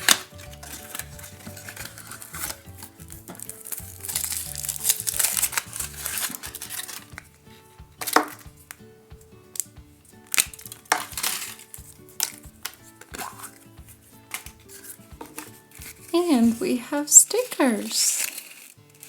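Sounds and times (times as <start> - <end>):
wrapper crinkling: 0.0 - 7.3, 10.3 - 19.0
background music: 0.0 - 19.0.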